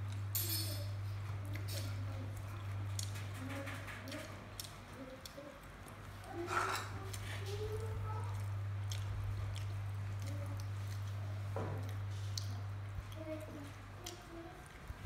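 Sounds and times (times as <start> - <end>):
steady low hum: 0.0 - 15.0
monkeys chewing food: 1.2 - 15.0.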